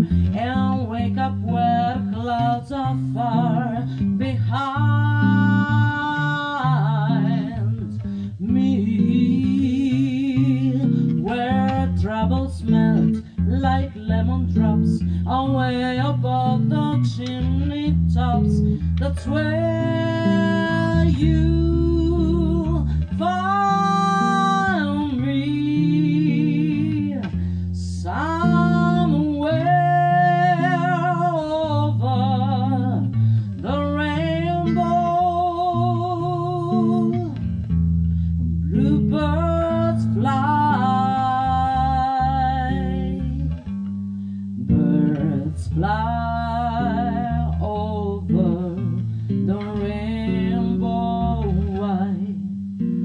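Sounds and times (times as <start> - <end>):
person singing with vibrato: 0.0 - 37.5, 38.7 - 43.7, 44.6 - 53.0
guitar and bass accompaniment: 0.0 - 53.0.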